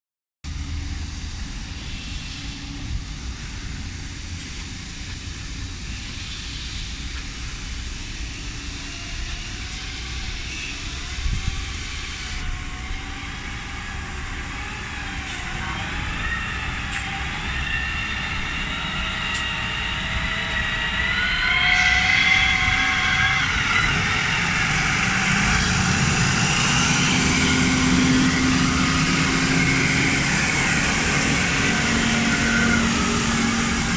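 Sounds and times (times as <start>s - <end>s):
forklift diesel engine running: 0.5s - 33.9s
wavering whine: 0.5s - 33.9s.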